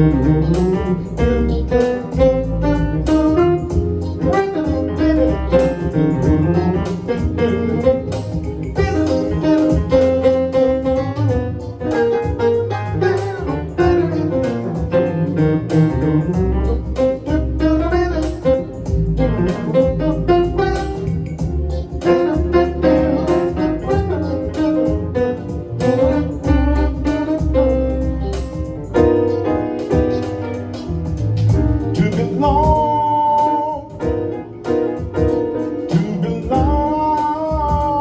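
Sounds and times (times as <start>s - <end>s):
sustained bass line: 0.0s - 34.4s, 35.0s - 38.0s
instrumental melody: 0.0s - 38.0s.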